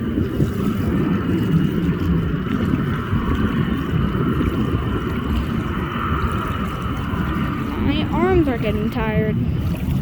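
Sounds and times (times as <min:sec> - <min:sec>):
distant jet engines: 0:00.0 - 0:10.0
wind buffeting microphone: 0:00.0 - 0:10.0.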